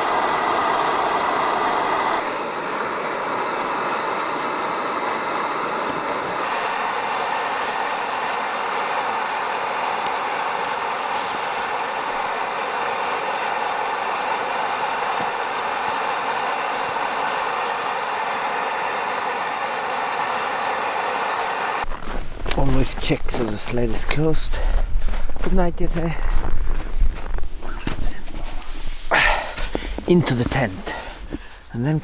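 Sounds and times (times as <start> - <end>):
camping stove burner roaring: 0.0 - 31.7.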